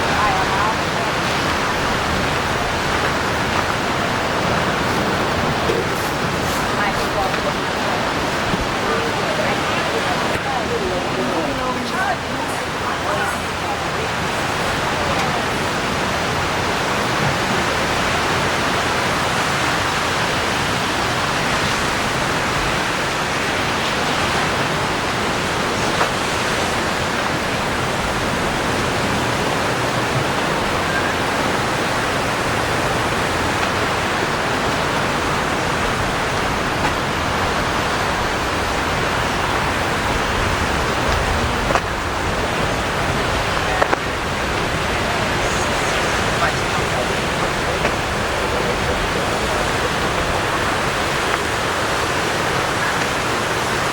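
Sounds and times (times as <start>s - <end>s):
surf washing on sandy beach: 0.0s - 53.9s.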